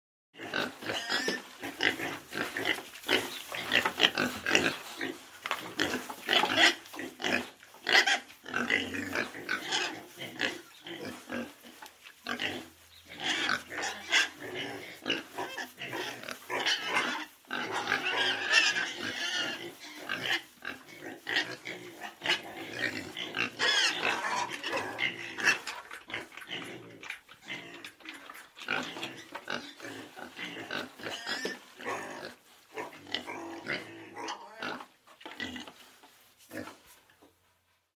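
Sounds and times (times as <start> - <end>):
pigs calling: 0.4 - 35.8.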